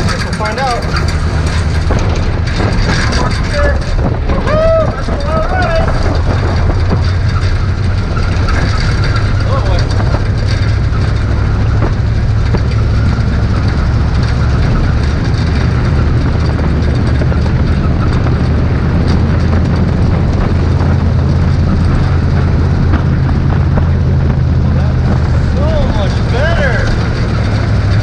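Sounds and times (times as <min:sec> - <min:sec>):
truck engine droning: 0:00.0 - 0:28.0
truck rattling and clicking: 0:00.0 - 0:28.0.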